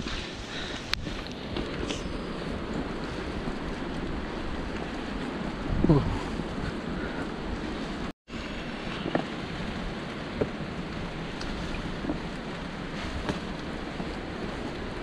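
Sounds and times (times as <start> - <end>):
wind and rain on microphone: 0.0 - 15.0.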